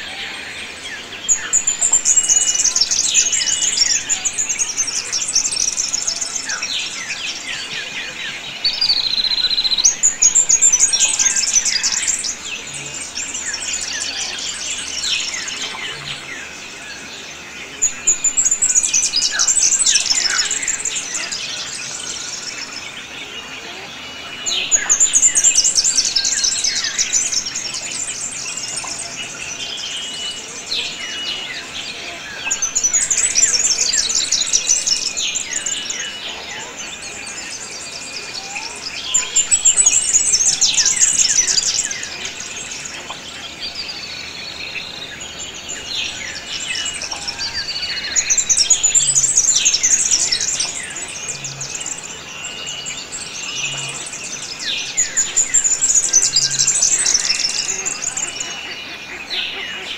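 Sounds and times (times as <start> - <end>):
bird chirps and calls: 0.0 - 59.9.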